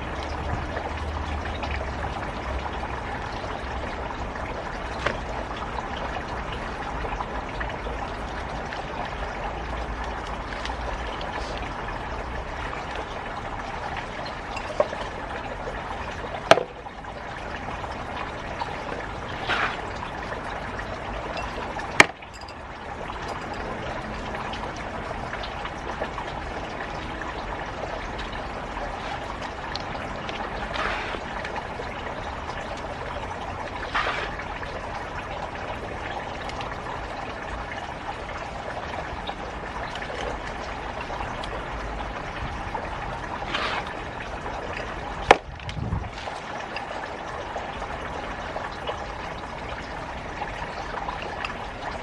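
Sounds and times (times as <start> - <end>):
water splashes: 0.0 - 52.0
water trickling: 0.0 - 52.0.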